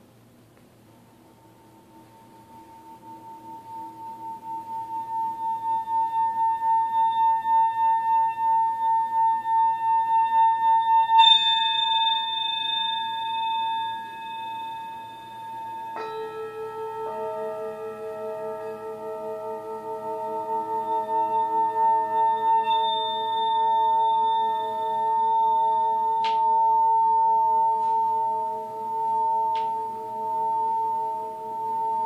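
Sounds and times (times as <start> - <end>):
lower-pitched bowl ringing: 0.9 - 32.0
singing bowl rim tone: 1.0 - 32.0
bowl strike ringing: 1.1 - 32.0.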